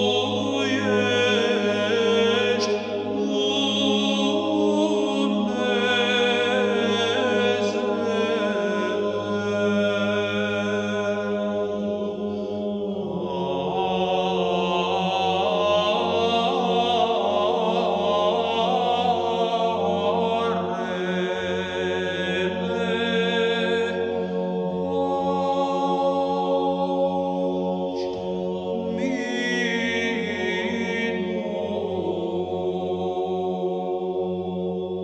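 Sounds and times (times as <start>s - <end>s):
steady held drone: 0.0s - 35.0s
sung chant melody: 0.0s - 35.0s.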